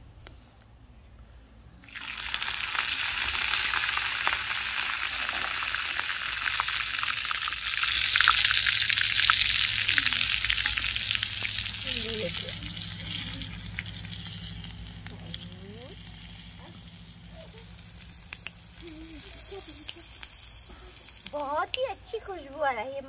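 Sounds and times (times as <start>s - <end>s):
spices sizzling in hot oil: 1.8s - 22.7s.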